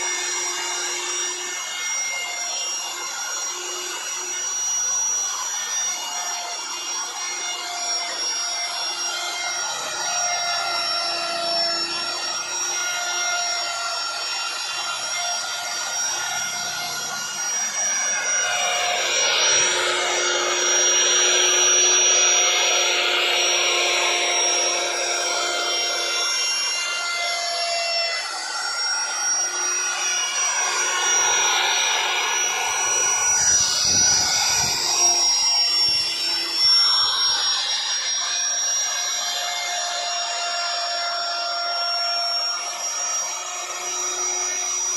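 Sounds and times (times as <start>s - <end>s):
electric router high whine: 0.0s - 44.9s.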